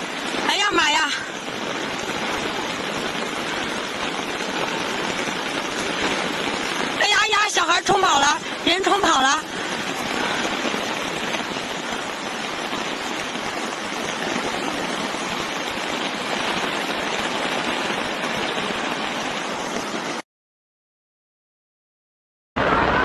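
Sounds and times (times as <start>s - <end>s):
fast-flowing floodwater rushing: 0.0s - 20.2s.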